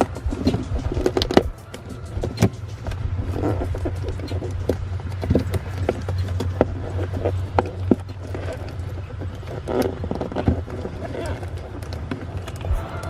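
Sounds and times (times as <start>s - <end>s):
clicks and knocks of car parts: 0.0s - 13.0s
steady low hum: 0.0s - 13.0s.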